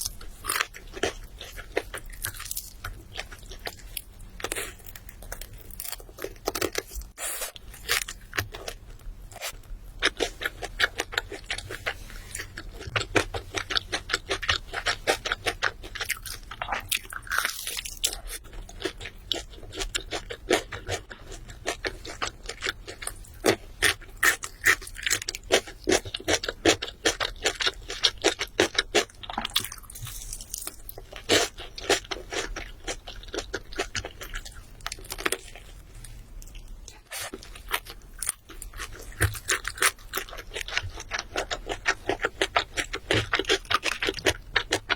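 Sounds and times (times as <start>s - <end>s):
chewing crunchy food: 0.0s - 44.9s.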